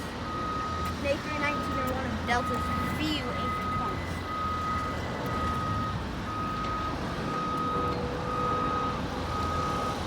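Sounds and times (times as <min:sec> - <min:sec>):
reversing alarm beeping: 0:00.0 - 0:10.0.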